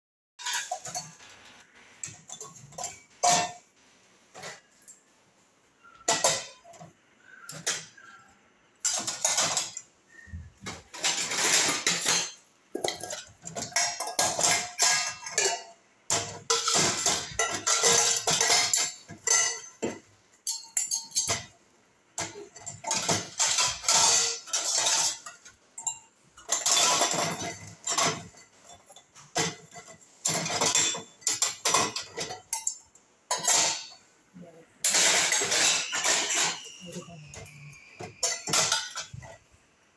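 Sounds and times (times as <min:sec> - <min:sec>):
steel dishes clattering: 0:00.4 - 0:03.7, 0:04.3 - 0:05.0, 0:05.8 - 0:21.6, 0:22.2 - 0:34.1, 0:34.8 - 0:39.6.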